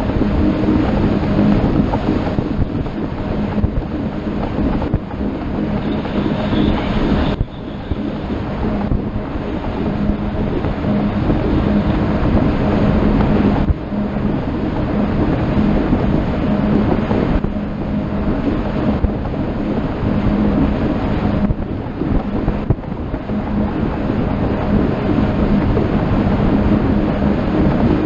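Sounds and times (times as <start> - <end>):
motorboat engine running: 0.0 - 28.0
water rushing against hull: 0.0 - 28.0
wind noise on microphone: 0.0 - 28.0.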